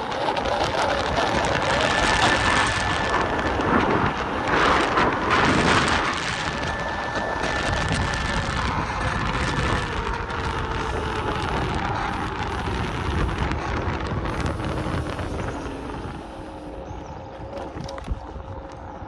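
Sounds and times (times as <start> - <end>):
electric scooter motor whine: 0.0 - 19.0
heavy wind rush: 0.0 - 19.0.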